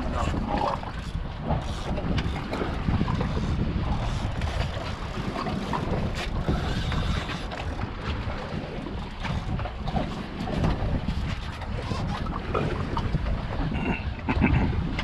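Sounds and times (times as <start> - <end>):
sea wash: 0.0 - 15.0
wind buffeting microphone: 0.0 - 15.0.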